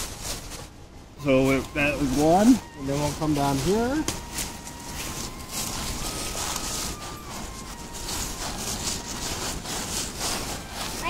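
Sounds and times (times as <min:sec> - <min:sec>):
handling noise: 0:00.0 - 0:11.0
leaves rustling: 0:00.0 - 0:11.0.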